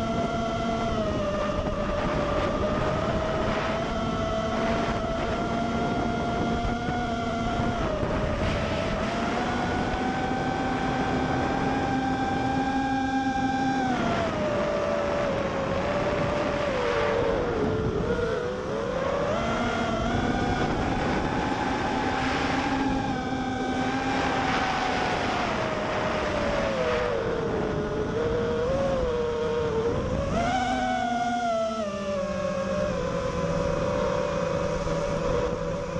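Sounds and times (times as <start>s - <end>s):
quadcopter motors whining: 0.0s - 35.9s
wind and prop wash rushing: 0.0s - 35.9s.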